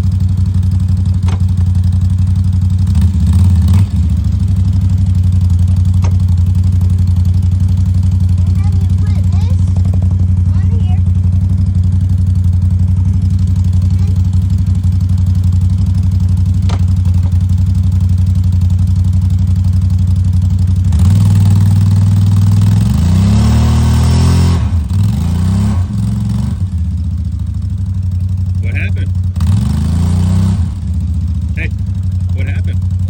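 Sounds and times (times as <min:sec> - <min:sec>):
all-terrain vehicle engine revving: 0:00.0 - 0:33.0.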